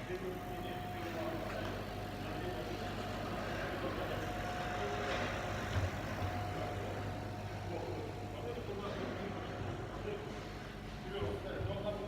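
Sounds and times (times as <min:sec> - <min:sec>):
steady whine: 0:00.0 - 0:11.2
laser cutter mechanical hum: 0:00.0 - 0:12.0.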